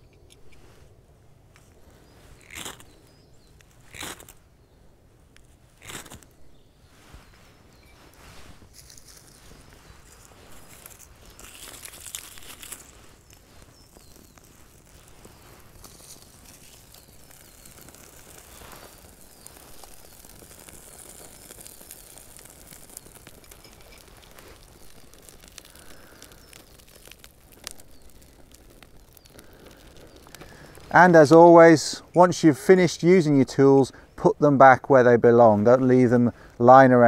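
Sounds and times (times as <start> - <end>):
sharp snaps of burning bark: 0.0 - 4.6, 5.2 - 32.5, 36.3 - 36.6
bark burning with faint crackle: 0.0 - 37.0.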